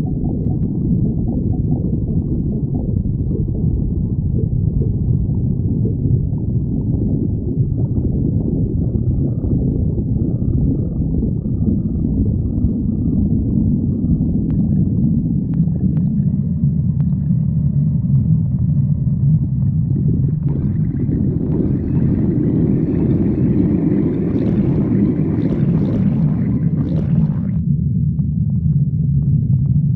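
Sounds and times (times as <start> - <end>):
stomach growling: 0.0 - 27.7.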